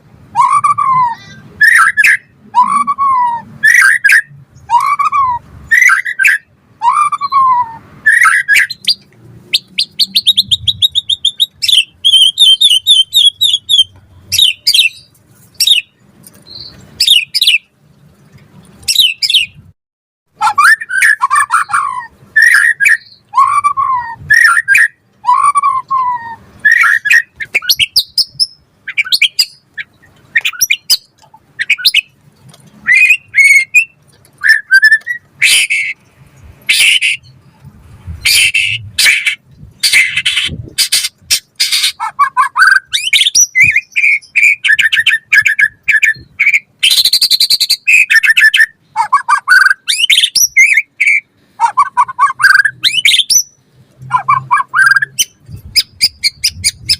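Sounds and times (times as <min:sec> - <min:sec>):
bird singing whistles and trills: 0:00.4 - 0:17.7, 0:18.9 - 0:19.6, 0:20.4 - 0:32.1, 0:32.8 - 0:36.0, 0:38.2 - 0:56.9.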